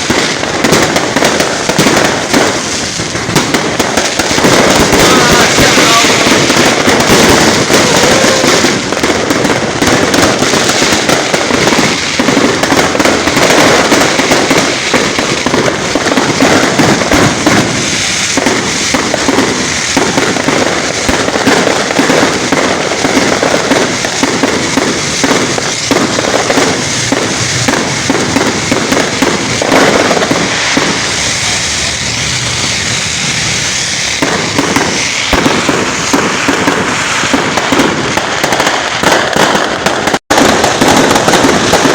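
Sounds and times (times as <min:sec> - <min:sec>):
fireworks crackling hiss: 0:00.0 - 0:41.9.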